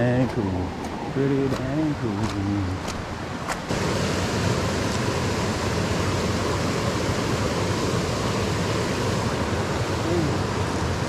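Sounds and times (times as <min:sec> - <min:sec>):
creek rushing over stones: 0:00.0 - 0:11.0.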